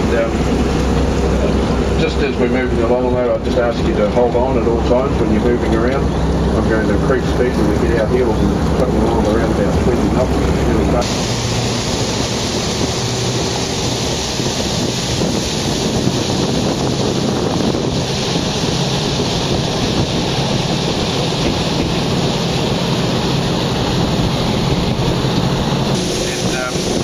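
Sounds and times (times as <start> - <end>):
boat engine drone: 0.0 - 27.0
water rushing along hull: 0.0 - 27.0
wind on microphone: 0.0 - 27.0.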